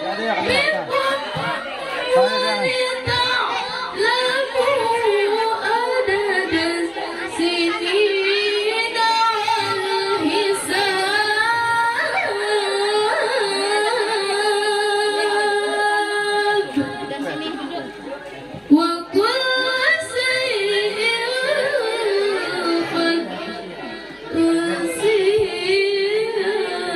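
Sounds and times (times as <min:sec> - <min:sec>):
woman reciting melodically: 0:00.4 - 0:18.0, 0:18.6 - 0:26.9.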